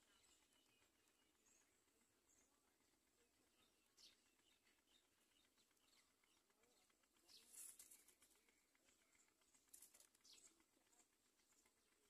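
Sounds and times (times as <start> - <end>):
soft bird chirps: 0.0 - 12.0.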